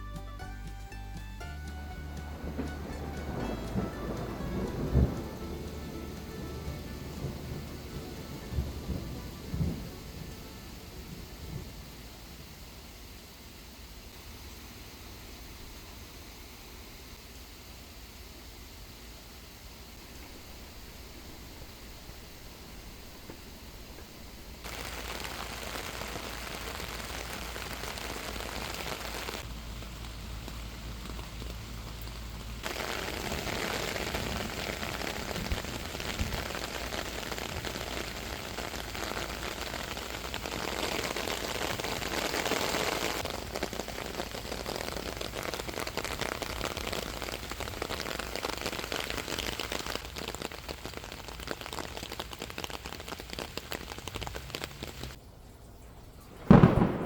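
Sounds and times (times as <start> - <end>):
heavy rain falling: 0.0 - 16.4, 17.1 - 55.2, 56.4 - 57.0.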